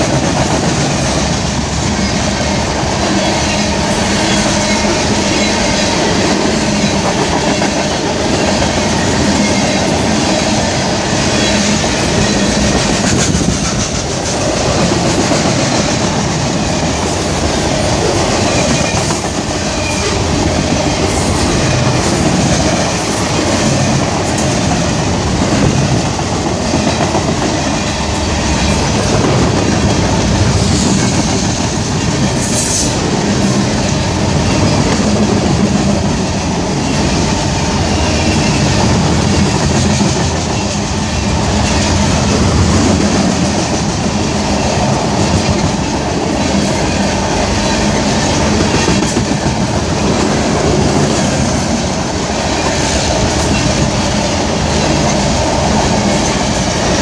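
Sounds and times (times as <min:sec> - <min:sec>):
rhythmic clickety-clack: 0:00.0 - 0:57.0
train wheels rumbling on rail: 0:00.0 - 0:57.0.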